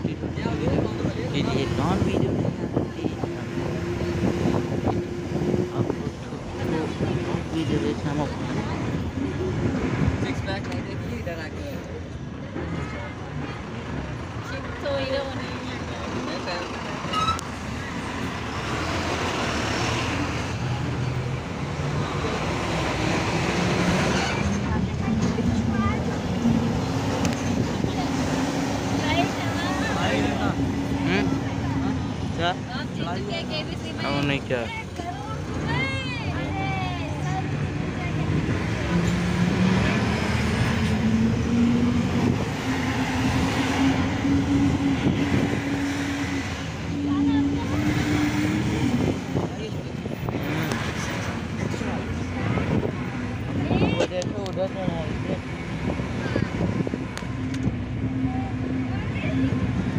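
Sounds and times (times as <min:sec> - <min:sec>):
road noise: 0:00.0 - 0:59.9
truck and bus engines running: 0:00.0 - 0:59.9.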